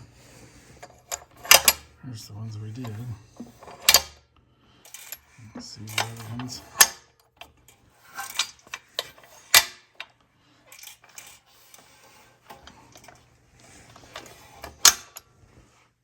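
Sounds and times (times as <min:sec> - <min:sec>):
metal parts clinking: 0:00.8 - 0:01.9, 0:02.8 - 0:04.2, 0:04.8 - 0:15.3.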